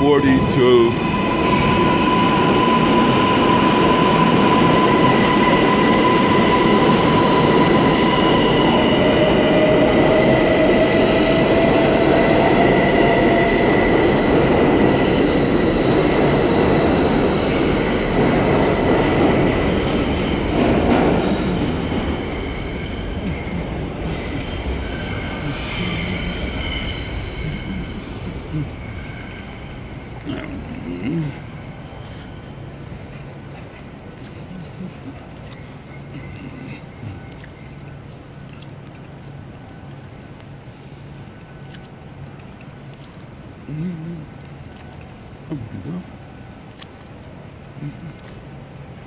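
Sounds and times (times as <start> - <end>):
subway train wheels rumbling: 0.0 - 42.9.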